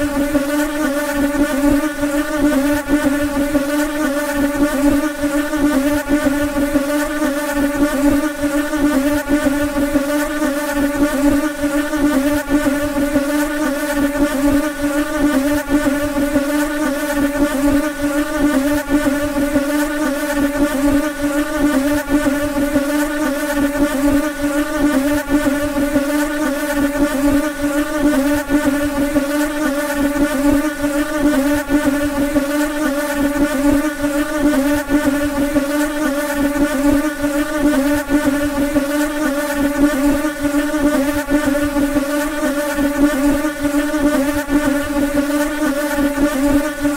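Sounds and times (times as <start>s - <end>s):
houseflies buzzing: 0.0s - 46.9s.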